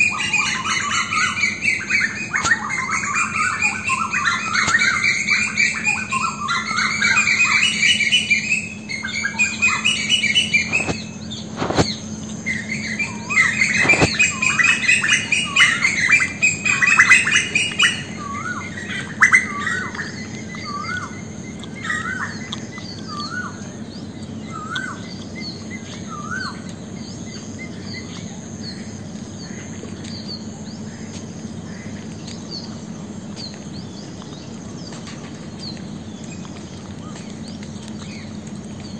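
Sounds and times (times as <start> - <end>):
birds chirping: 0.0 - 38.9
steady low hum: 0.0 - 38.9.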